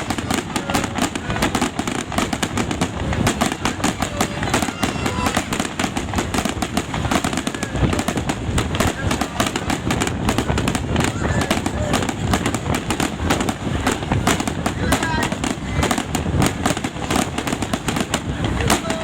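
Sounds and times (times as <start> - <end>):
fireworks popping and banging: 0.0 - 19.0.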